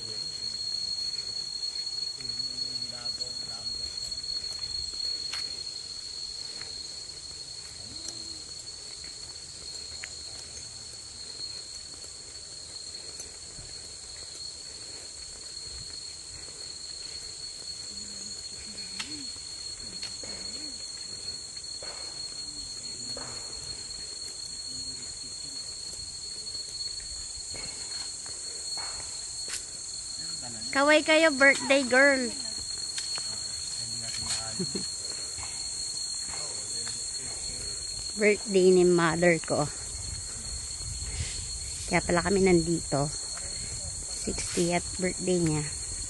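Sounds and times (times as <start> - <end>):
high hiss: 0.0 - 46.0
insects chirring: 0.0 - 46.0.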